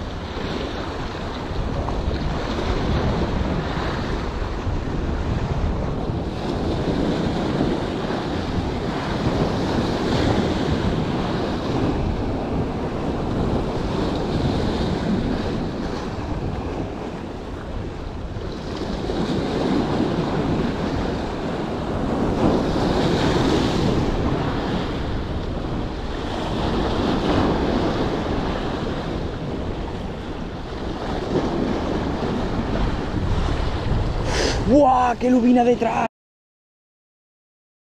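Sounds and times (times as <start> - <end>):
waves breaking over rocks: 0.0 - 36.0
wind buffeting microphone: 0.0 - 36.1.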